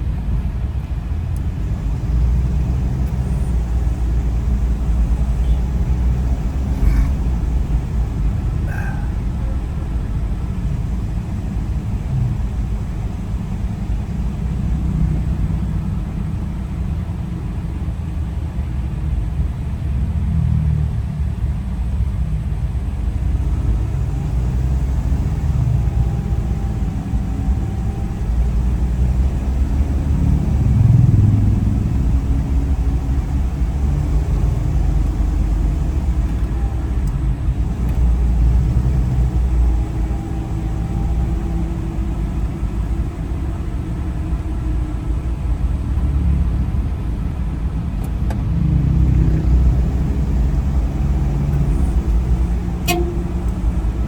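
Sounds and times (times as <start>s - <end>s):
road vehicle rumble: 0.0s - 54.0s.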